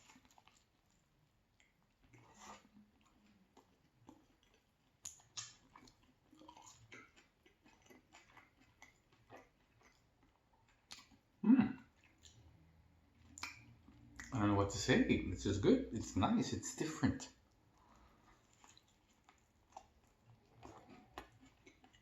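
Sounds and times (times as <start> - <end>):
chewing crunchy food: 0.0 - 14.5, 17.3 - 22.0.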